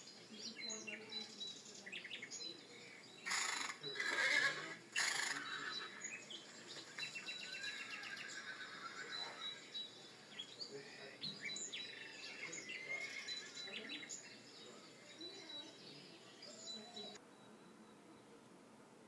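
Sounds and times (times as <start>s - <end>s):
birds chirping: 0.0s - 18.6s.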